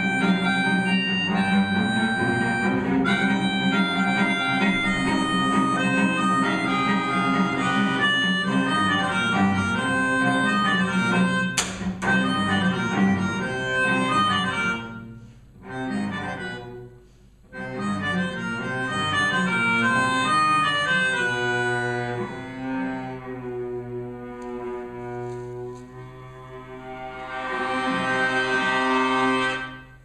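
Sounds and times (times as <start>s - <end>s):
melodica chords: 0.0s - 23.7s, 26.0s - 30.0s
cello playing: 0.0s - 30.0s.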